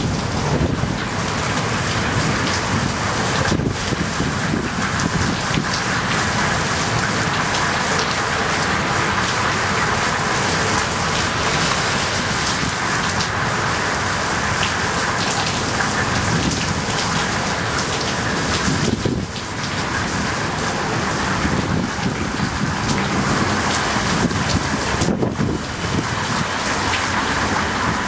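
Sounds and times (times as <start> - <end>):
heavy rain on pavement: 0.0 - 28.0.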